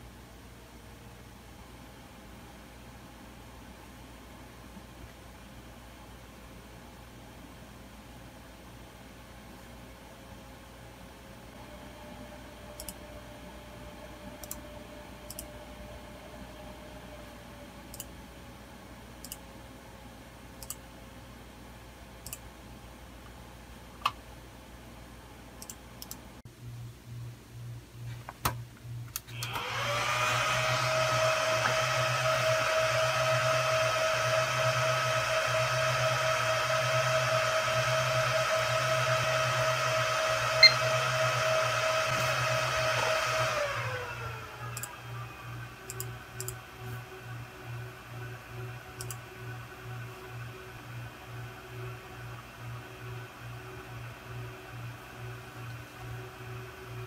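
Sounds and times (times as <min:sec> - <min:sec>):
server fans whirring with whine: 0:00.0 - 0:57.0.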